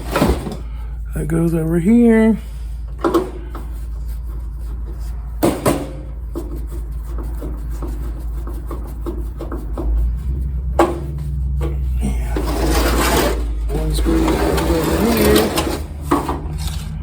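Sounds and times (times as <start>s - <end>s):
steady low hum: 0.0s - 17.0s
heater parts knocking: 2.8s - 17.0s.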